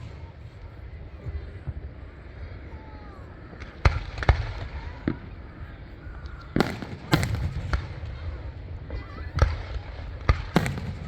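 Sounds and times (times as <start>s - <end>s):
fireworks bangs: 0.0s - 2.6s, 3.5s - 11.0s.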